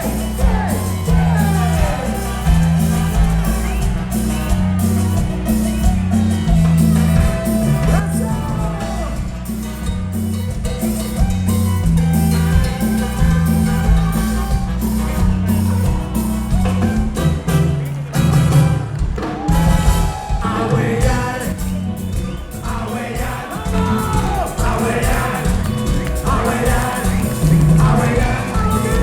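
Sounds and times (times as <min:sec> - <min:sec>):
live band playing dance music: 0:00.0 - 0:29.0.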